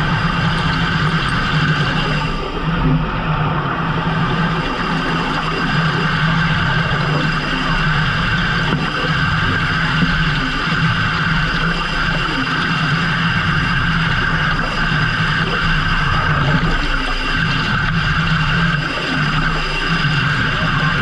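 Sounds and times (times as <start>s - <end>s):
boat machinery drone: 0.0s - 21.0s.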